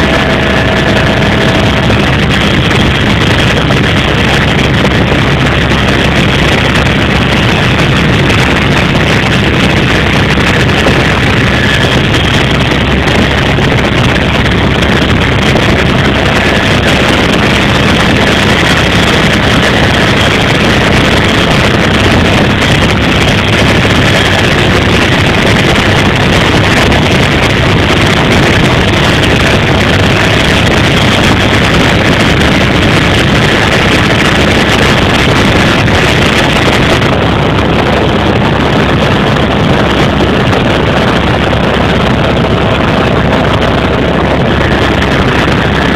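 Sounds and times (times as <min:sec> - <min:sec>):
faint steady whine: 0:00.0 - 0:45.9
helicopter engine and rotor noise: 0:00.0 - 0:45.9.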